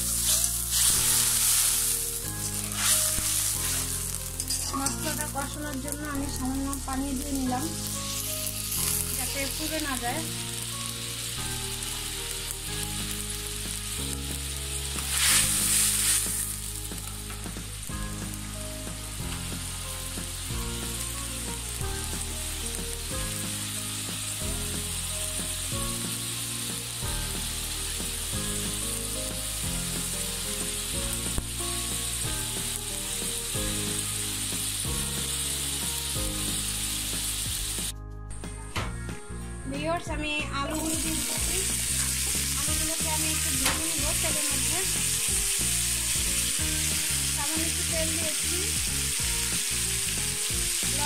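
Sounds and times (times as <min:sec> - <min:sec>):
onion frying in oil sizzling: 0:00.0 - 0:37.9, 0:40.5 - 0:51.0.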